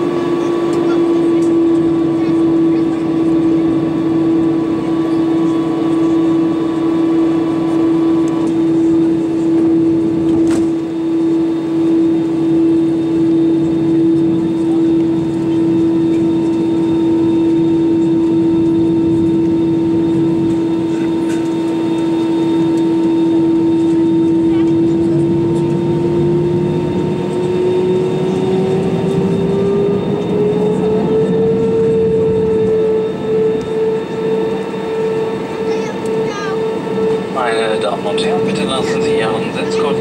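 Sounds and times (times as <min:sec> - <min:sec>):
aircraft cabin engine drone: 0:00.0 - 0:40.0.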